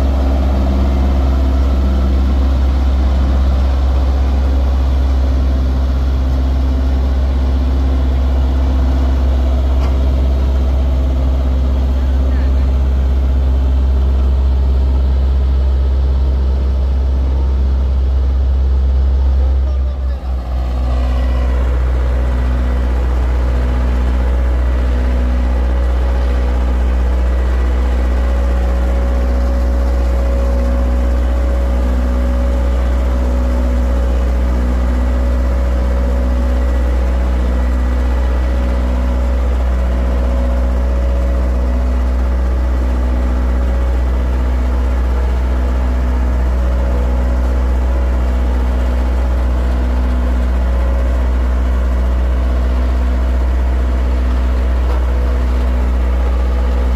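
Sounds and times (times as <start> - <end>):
heavy engine rumbling: 0.0 - 56.9.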